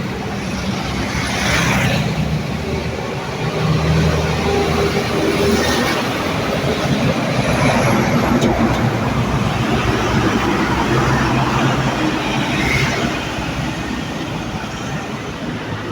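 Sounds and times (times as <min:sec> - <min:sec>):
bus engine passing: 0:00.0 - 0:15.9
heavy road traffic: 0:00.0 - 0:15.9.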